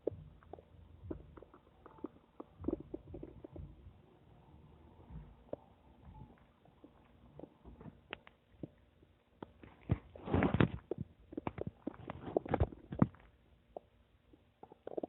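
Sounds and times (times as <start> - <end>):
stomach gurgling: 0.0 - 15.0.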